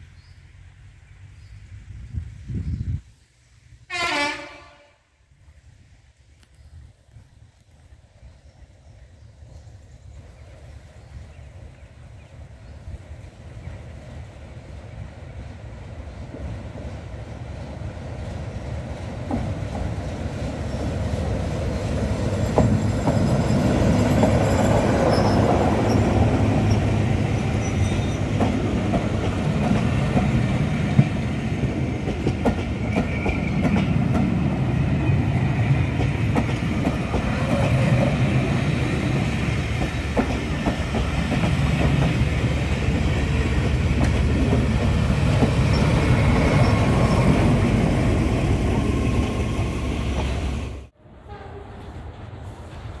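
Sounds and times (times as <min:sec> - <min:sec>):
diesel locomotive engine: 0:07.6 - 0:53.0
train wheels rumbling on rails: 0:07.6 - 0:53.0.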